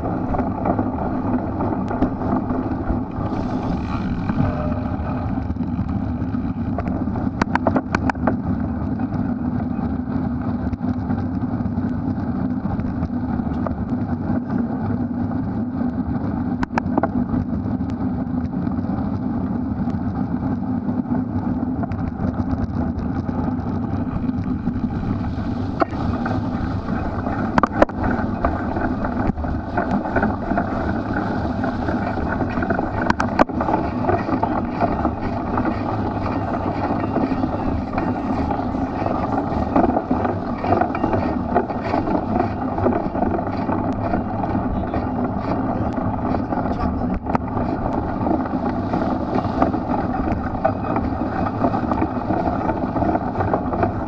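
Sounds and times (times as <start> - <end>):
bike rolling and drivetrain noise: 0.0 - 54.0
wind rushing over microphone: 0.0 - 54.0.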